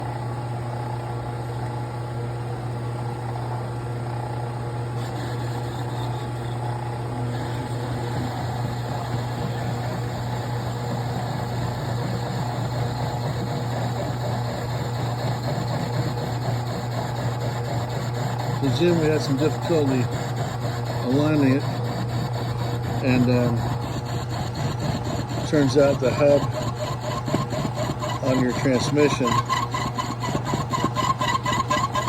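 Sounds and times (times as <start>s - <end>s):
metal lathe humming: 4.8s - 32.0s.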